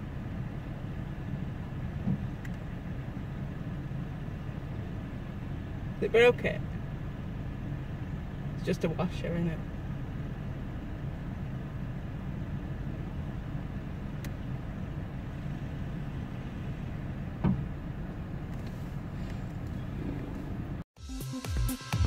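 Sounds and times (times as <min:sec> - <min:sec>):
car engine idling: 0:00.0 - 0:20.8.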